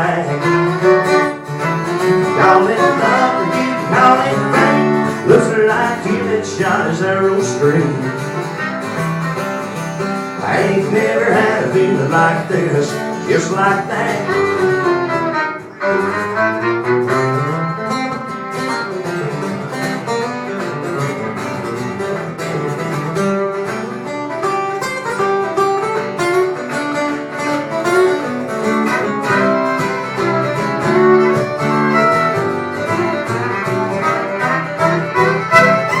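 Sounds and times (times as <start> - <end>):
fiddle: 0.0 - 36.0
lead guitar: 0.0 - 36.0.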